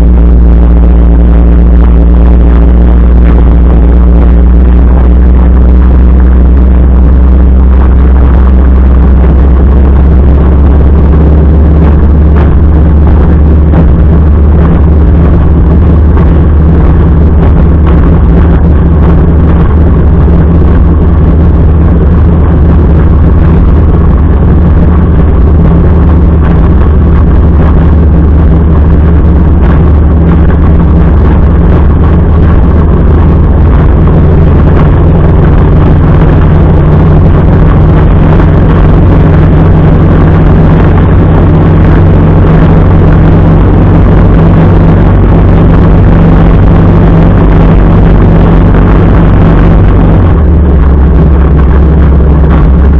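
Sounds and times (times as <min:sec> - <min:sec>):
motorcycle engine drone: 0:00.0 - 0:52.9
road noise: 0:00.0 - 0:52.9.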